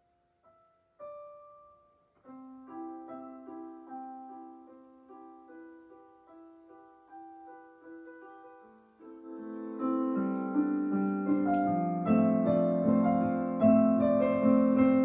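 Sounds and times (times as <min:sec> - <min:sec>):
soft solo piano: 0:00.0 - 0:15.0.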